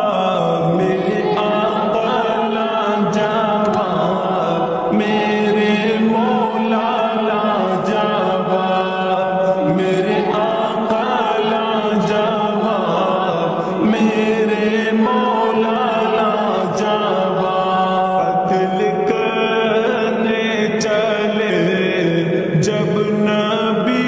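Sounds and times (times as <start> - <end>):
reverberant layered devotional chanting: 0.0 - 24.0.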